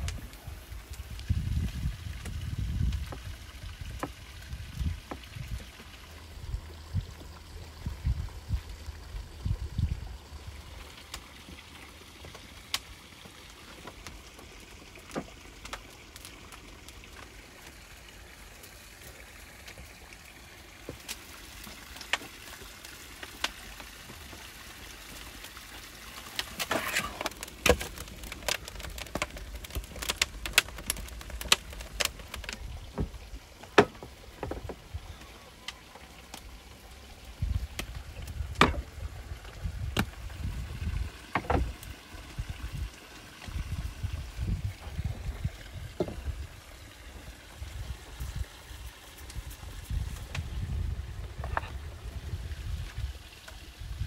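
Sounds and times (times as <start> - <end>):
firewood knocking and crackling: 0.0 - 8.7, 10.8 - 17.8, 18.5 - 53.6.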